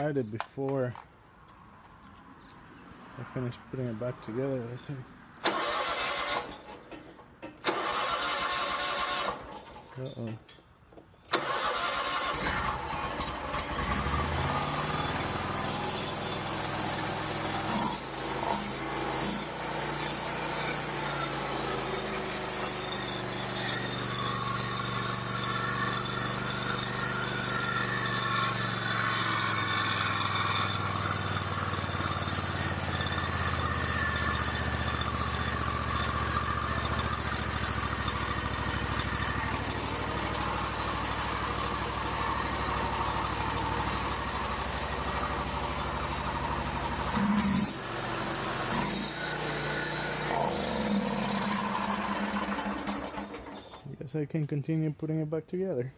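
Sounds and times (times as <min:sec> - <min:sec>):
lawn mower engine running: 0:05.4 - 0:10.6, 0:11.2 - 0:53.8.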